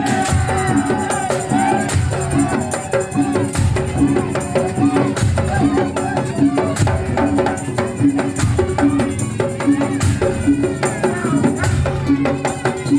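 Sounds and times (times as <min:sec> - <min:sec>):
drum strokes: 0:00.0 - 0:12.9
rattling percussion: 0:00.0 - 0:12.9.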